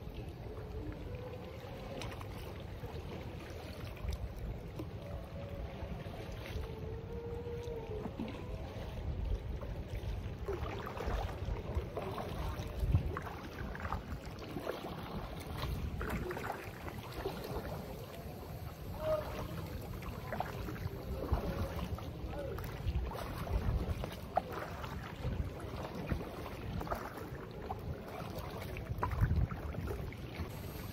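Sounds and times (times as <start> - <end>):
paddles splashing in water: 0.0 - 30.9
wind rumble on microphone: 0.0 - 30.9.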